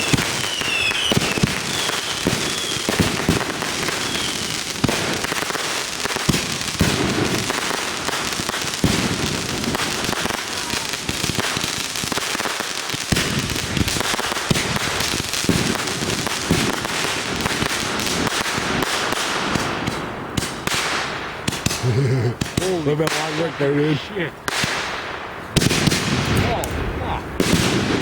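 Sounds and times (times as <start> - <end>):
firecrackers crackling: 0.0 - 28.0
loud firework booms: 0.0 - 28.0.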